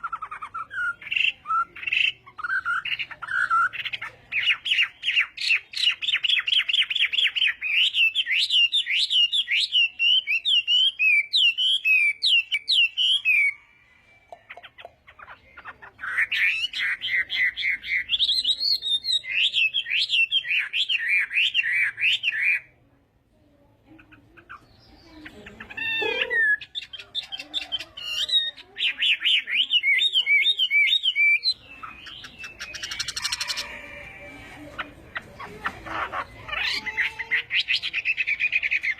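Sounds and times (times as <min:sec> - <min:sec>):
bird warbling song: 0:00.0 - 0:13.6, 0:14.5 - 0:22.7, 0:23.8 - 0:38.9.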